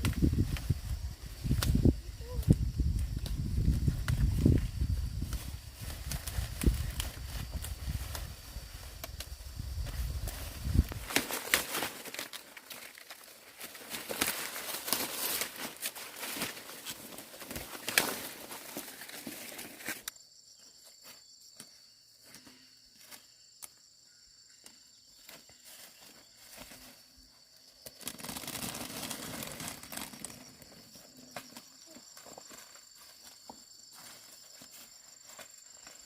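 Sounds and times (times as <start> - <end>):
corn plants rustling: 0.0 - 20.1, 25.2 - 36.0
high insect drone: 0.0 - 36.0.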